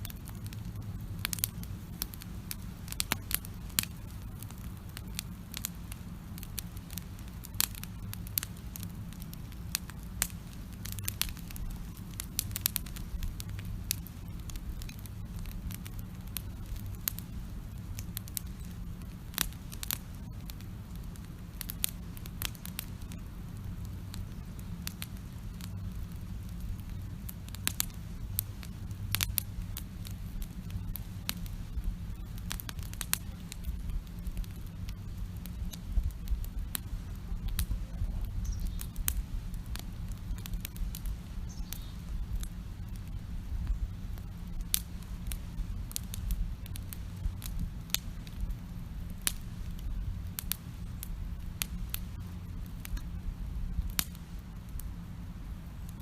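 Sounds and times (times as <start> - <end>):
wood campfire crackling: 0.0 - 56.0.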